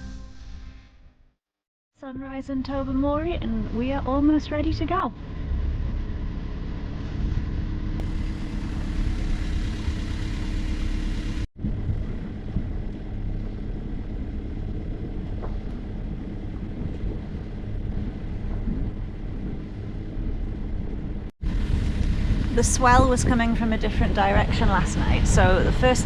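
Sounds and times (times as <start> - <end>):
diesel engine rumbling: 2.3 - 26.0.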